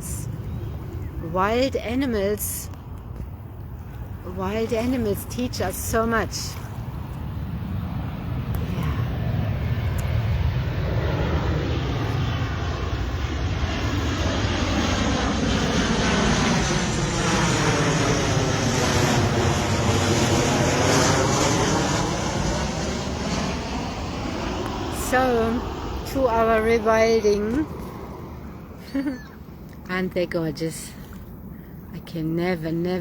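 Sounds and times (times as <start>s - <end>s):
aircraft engine passing overhead: 0.0s - 33.0s.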